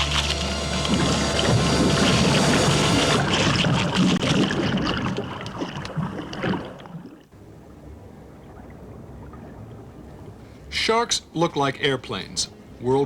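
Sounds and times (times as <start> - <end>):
water splashing and churning: 0.0 - 13.0.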